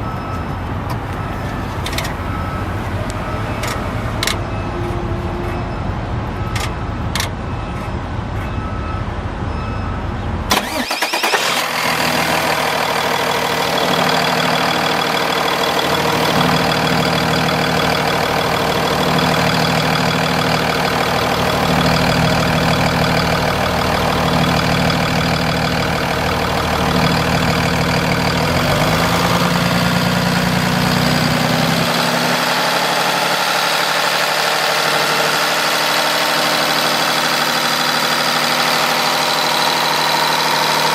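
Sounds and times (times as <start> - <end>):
diesel truck engine starting and idling: 0.0 - 40.9.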